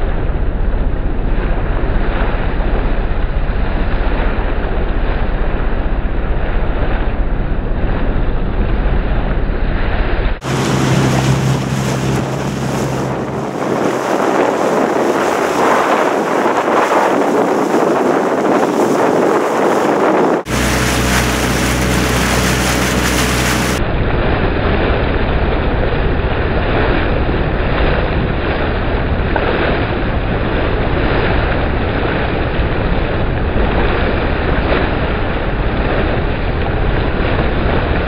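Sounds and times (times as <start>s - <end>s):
small boat motor humming: 0.0s - 38.0s
water noise: 0.0s - 38.0s
wind buffeting microphone: 0.0s - 38.0s.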